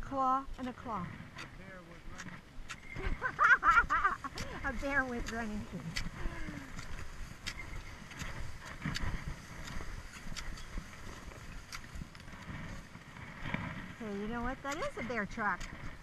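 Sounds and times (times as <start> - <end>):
wind rumble on microphone: 0.0 - 16.0
ski poles clicking: 1.4 - 16.0
skis swishing over snow: 2.8 - 16.0.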